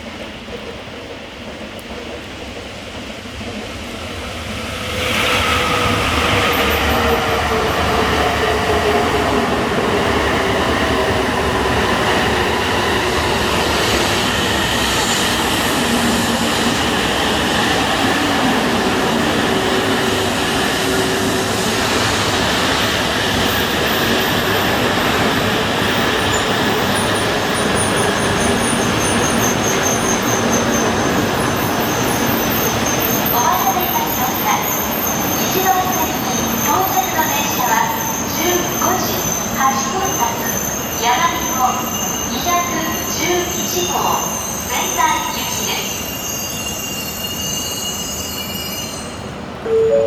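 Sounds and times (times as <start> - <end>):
train rushing past: 0.0 - 50.0.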